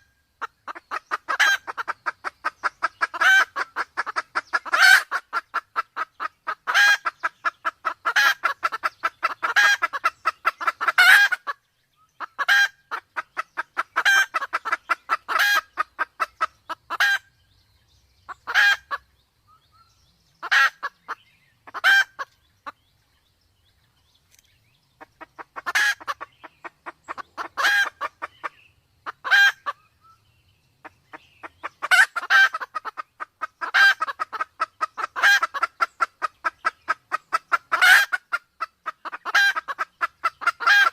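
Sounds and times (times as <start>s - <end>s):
junglefowl clucking: 0.0s - 11.6s, 12.2s - 17.3s, 18.3s - 19.1s, 20.4s - 22.9s, 25.0s - 30.2s, 30.8s - 40.9s.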